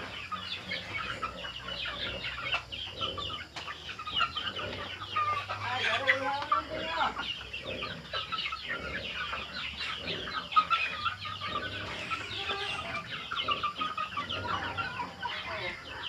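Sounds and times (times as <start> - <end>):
chickens clucking and peeping: 0.0 - 16.0.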